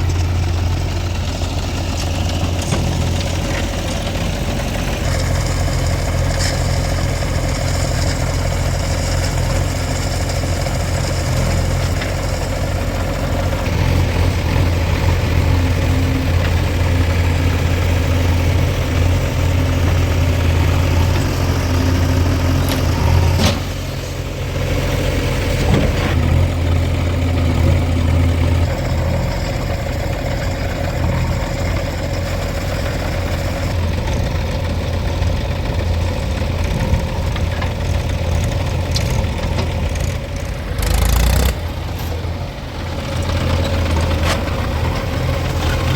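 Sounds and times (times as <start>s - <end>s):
diesel engines humming: 0.0s - 45.9s.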